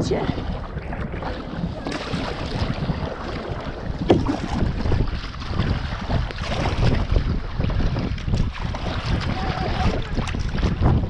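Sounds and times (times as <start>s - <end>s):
water lapping against kayak hull: 0.0s - 11.0s
wind buffeting the microphone: 0.0s - 11.0s.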